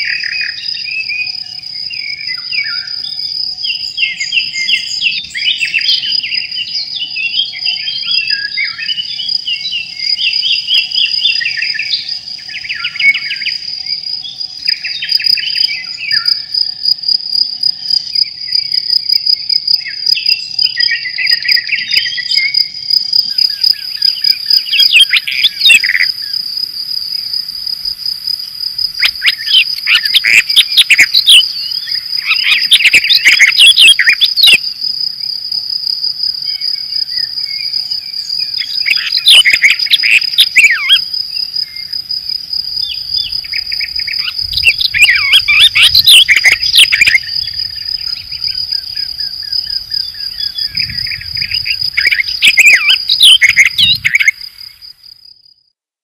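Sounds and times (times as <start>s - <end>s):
songbird singing: 0.0s - 55.2s
cricket trilling: 0.0s - 55.7s.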